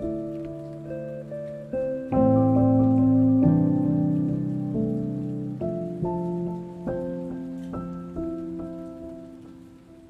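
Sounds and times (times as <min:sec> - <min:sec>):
soft keyboard chords: 0:00.0 - 0:10.0.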